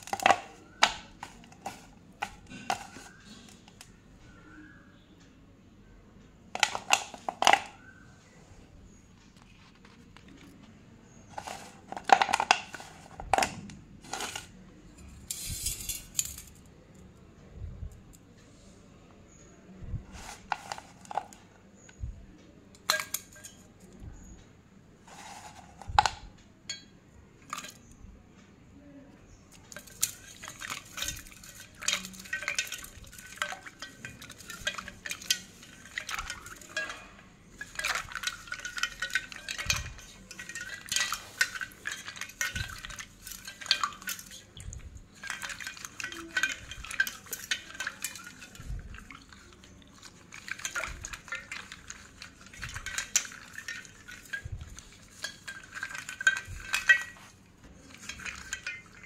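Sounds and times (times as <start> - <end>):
slate pencils clinking in water: 0.0 - 4.0, 6.5 - 8.0, 9.8 - 16.6, 20.0 - 22.1, 22.8 - 24.1, 25.0 - 28.0, 29.3 - 59.0.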